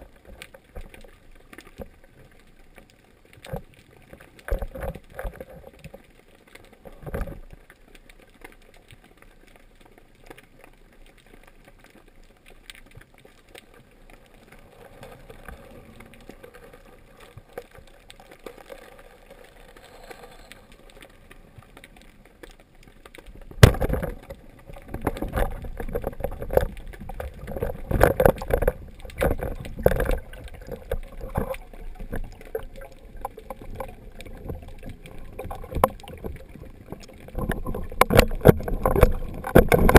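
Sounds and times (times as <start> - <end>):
underwater water noise: 0.0 - 39.9.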